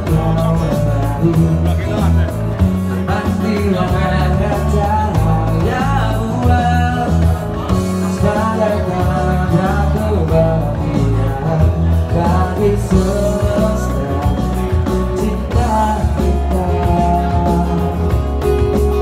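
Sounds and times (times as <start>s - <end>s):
live band playing: 0.0s - 19.0s
man singing pop song: 0.0s - 19.0s.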